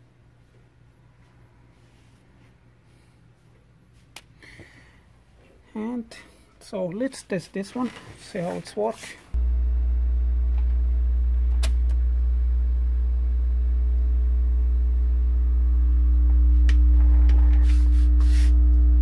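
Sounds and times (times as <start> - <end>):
low electrical hum from speaker: 0.0 - 19.0.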